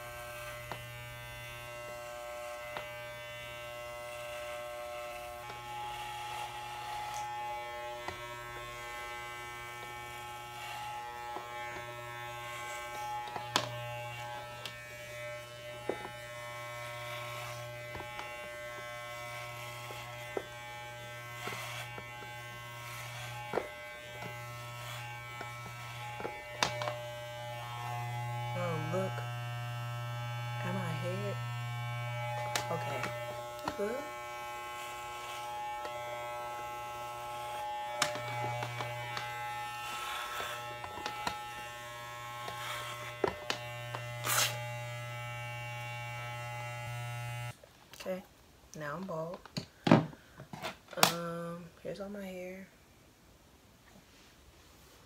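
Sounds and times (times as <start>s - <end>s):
electric hair clippers buzzing: 0.0s - 47.6s.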